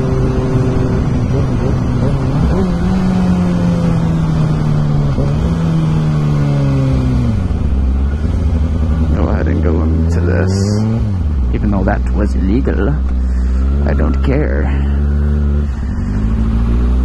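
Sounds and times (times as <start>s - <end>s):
loud motorcycle engine revving: 0.0s - 17.0s.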